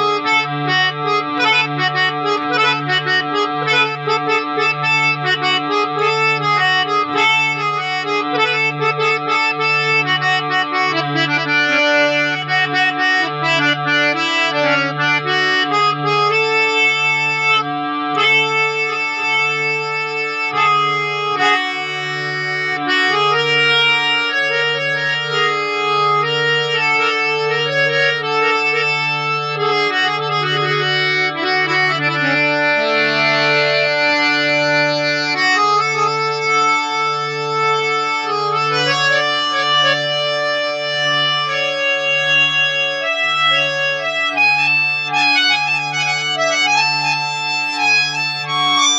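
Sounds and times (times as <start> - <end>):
harmonium playing: 0.0 - 48.9.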